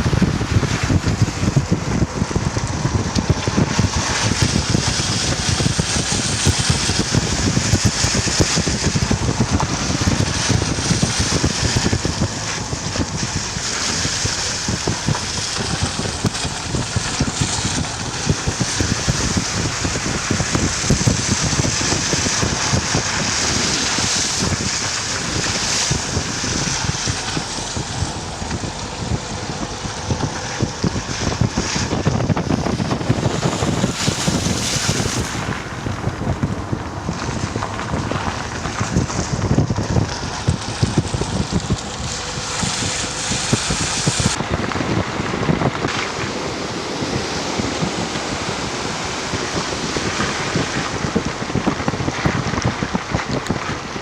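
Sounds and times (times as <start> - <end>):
rain and rushing water: 0.0 - 54.0
wind buffeting microphone: 0.0 - 54.0.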